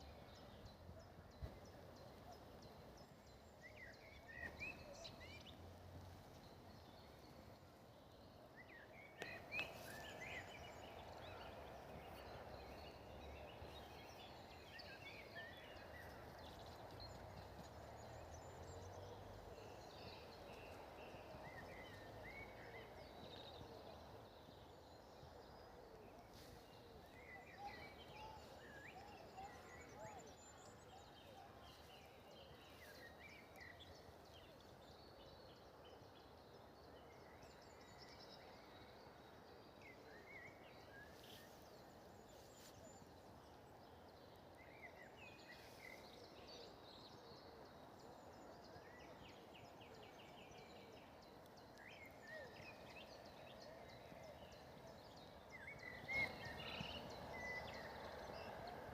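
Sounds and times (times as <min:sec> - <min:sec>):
outdoor background noise: 0:00.0 - 0:58.9.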